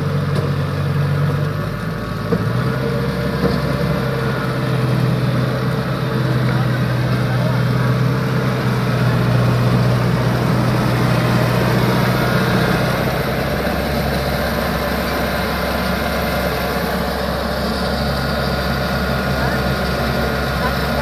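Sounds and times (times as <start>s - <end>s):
combine harvester diesel engine: 0.0s - 21.0s.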